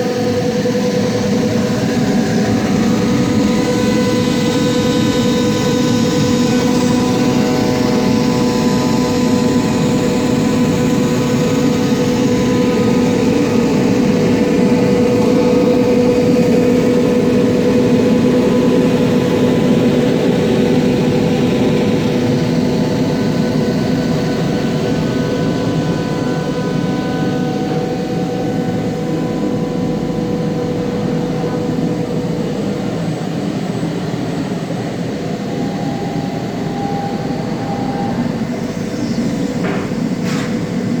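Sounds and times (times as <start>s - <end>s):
machine droning and whining: 0.0s - 41.0s.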